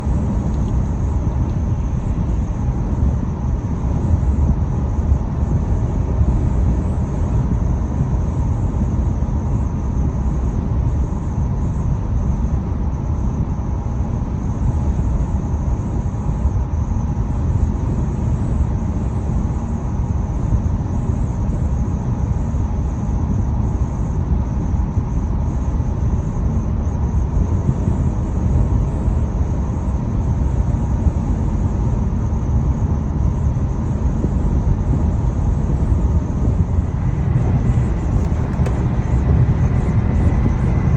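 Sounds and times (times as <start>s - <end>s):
road and wind rumble in car: 0.0s - 40.9s.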